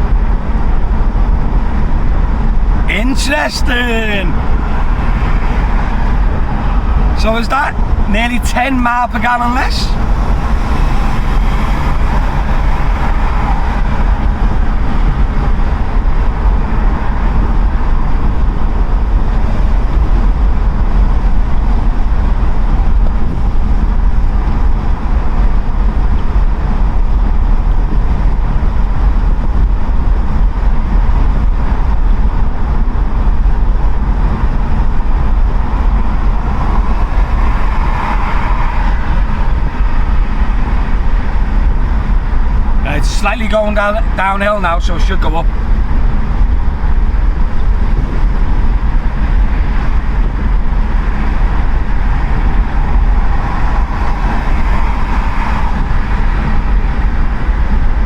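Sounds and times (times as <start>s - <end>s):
road noise: 0.0s - 58.0s
wind rushing through car windows: 0.0s - 58.0s.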